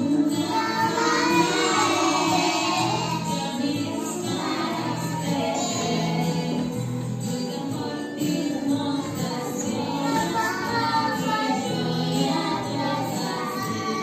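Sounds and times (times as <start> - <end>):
children singing: 0.0 - 14.0
musical accompaniment: 0.0 - 14.0.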